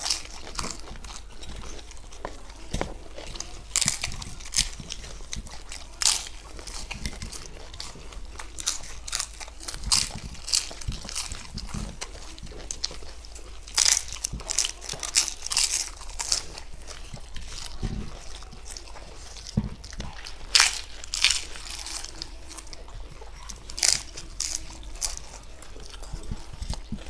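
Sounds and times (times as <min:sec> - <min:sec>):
crisp wafers crunching: 0:00.0 - 0:27.0
wet chewing: 0:00.0 - 0:27.0.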